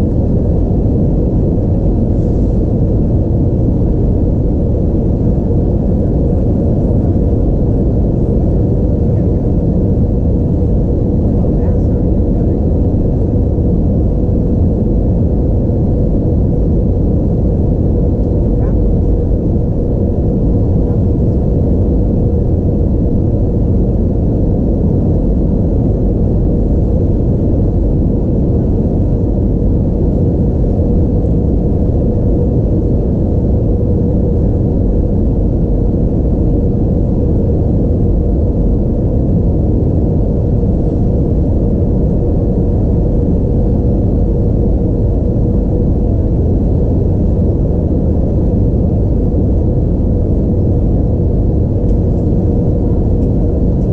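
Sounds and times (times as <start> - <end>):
airflow and jet engine drone: 0.0 - 53.9.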